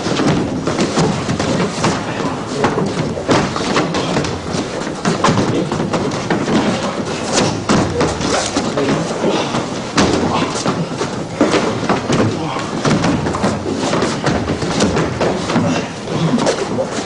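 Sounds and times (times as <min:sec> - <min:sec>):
feet stamping and shuffling: 0:00.0 - 0:17.0
strikes landing on bodies: 0:00.0 - 0:17.0.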